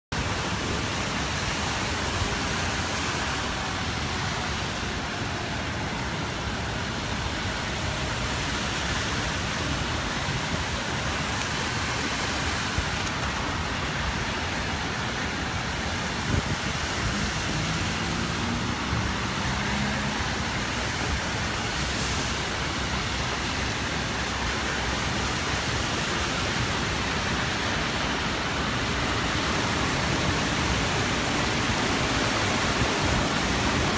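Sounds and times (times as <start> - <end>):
churning floodwater: 0.1 - 33.9
heavy rain: 0.1 - 33.9.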